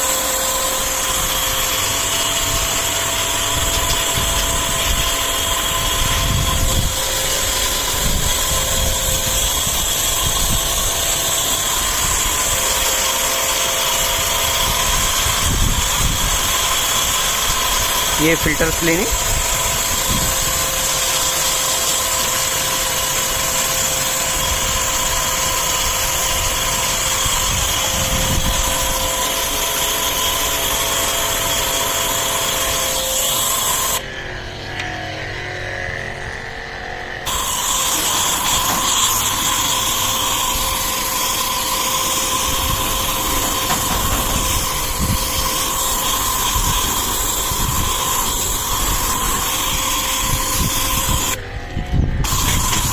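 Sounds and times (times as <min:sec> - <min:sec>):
water jet spraying: 0:00.0 - 0:34.0, 0:37.3 - 0:51.4
pressure washer pump whine: 0:00.0 - 0:52.9.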